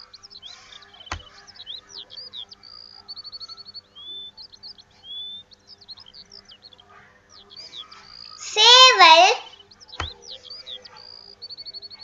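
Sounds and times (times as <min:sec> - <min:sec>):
bird trill: 0:00.0 - 0:12.0
songbirds chirping and whistling: 0:00.0 - 0:12.0.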